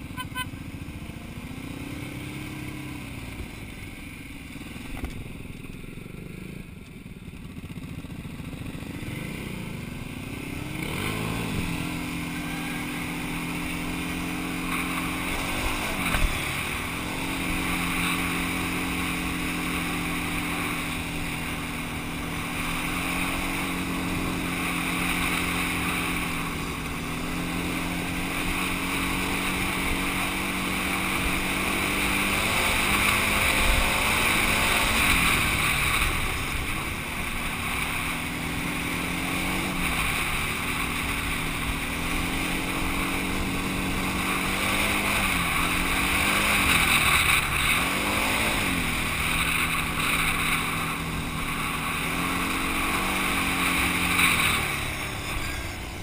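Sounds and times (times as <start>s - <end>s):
quad engine running: 0.0s - 56.0s
wind and tyre hiss: 0.0s - 56.0s.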